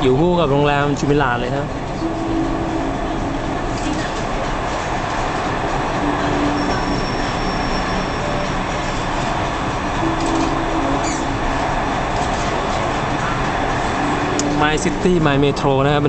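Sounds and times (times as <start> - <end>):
low hums: 0.0 - 16.0
train rumbling and rushing: 0.0 - 16.0
thin high whine: 2.0 - 16.0.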